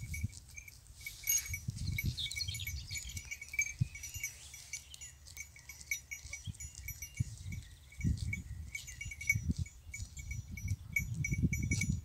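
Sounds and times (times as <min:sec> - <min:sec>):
low rumbling wind gusts: 0:00.0 - 0:04.6, 0:06.4 - 0:12.0
goat bells tinkling: 0:00.0 - 0:12.0.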